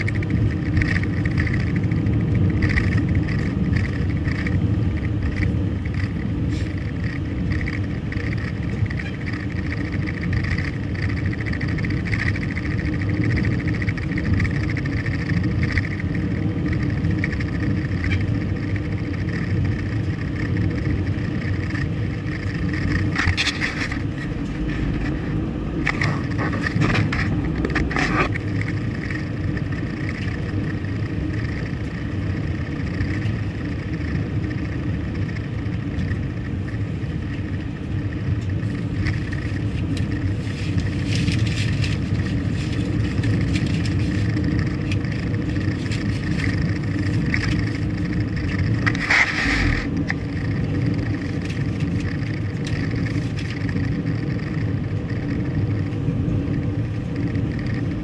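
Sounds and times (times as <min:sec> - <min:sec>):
car engine and road rumble: 0:00.0 - 0:58.0
sharp clatters: 0:00.0 - 0:58.0.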